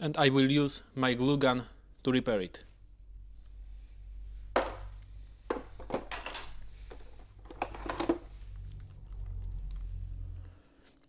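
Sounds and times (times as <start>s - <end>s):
steady low hum: 0.8s - 10.9s.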